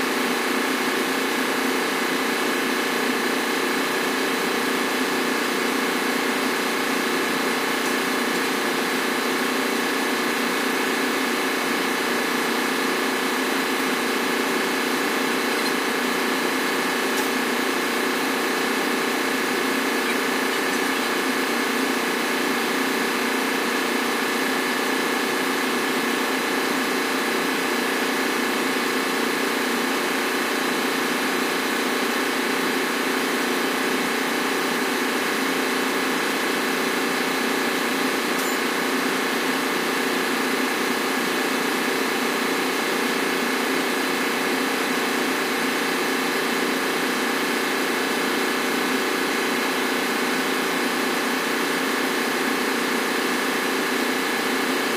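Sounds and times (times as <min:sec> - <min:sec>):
engine room machinery drone: 0:00.0 - 0:54.9.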